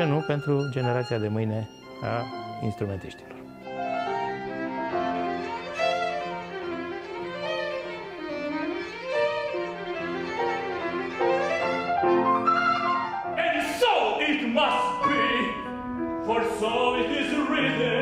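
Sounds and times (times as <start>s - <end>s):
piano accompaniment: 0.0s - 18.0s
violin playing classical piece: 0.0s - 18.0s.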